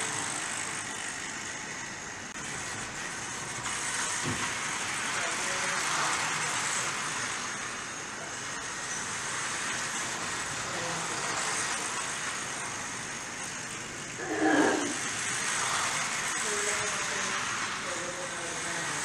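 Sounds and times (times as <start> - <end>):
model train motors whirring: 0.0 - 19.0.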